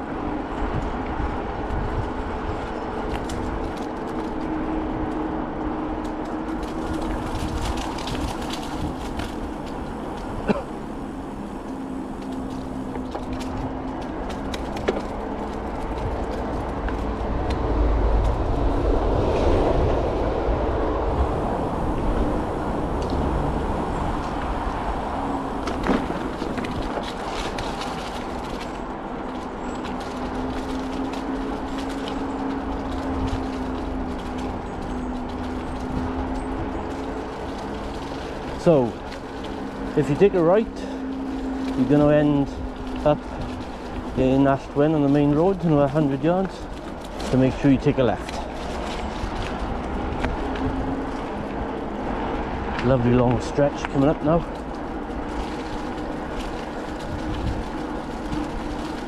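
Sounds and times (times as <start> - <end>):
bicycle tyre noise: 0.0 - 59.0
wind rumble on microphone: 0.0 - 59.0.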